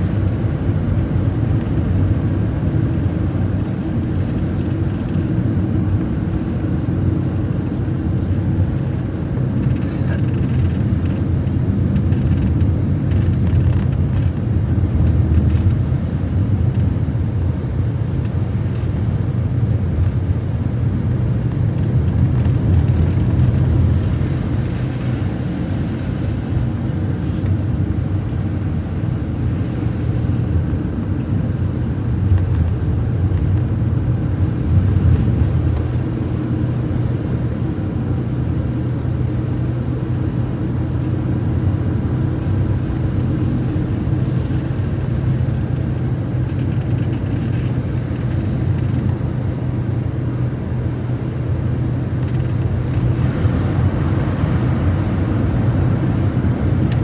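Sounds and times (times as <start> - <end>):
road noise: 0.0 - 57.0
vehicle engine rumble: 0.0 - 57.0.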